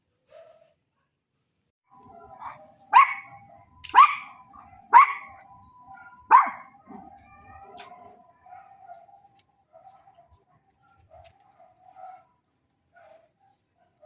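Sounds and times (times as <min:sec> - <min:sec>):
dog barking: 0:01.9 - 0:14.0.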